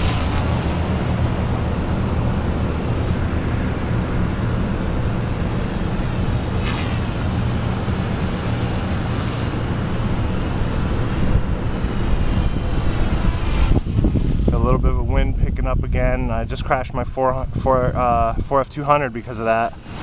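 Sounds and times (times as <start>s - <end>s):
rc helicopter motor whine: 0.0s - 20.0s
wind rumble on microphone: 0.0s - 20.0s.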